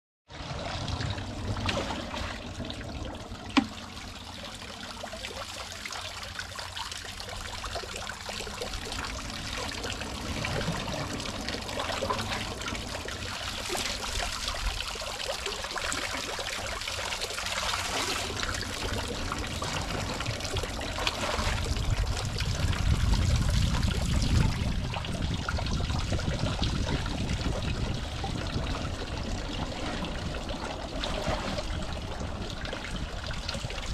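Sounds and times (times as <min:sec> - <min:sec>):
water trickling and splashing: 0:00.3 - 0:33.9.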